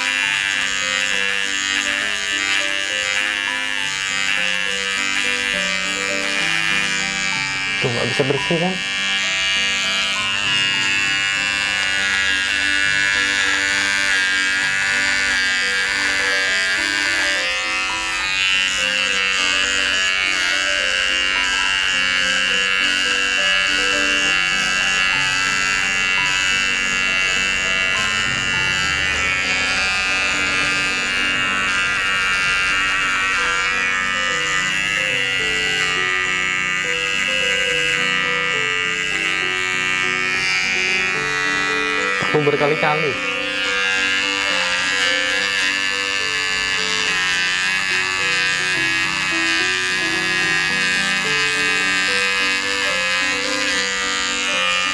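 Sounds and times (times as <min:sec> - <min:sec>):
background music: 0:00.0 - 0:54.9
electric shaver buzzing: 0:00.0 - 0:54.9.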